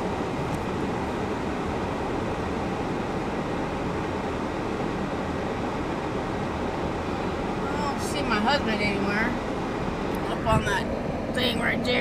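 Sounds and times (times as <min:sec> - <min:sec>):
vehicle rumble from cab: 0:00.0 - 0:12.0.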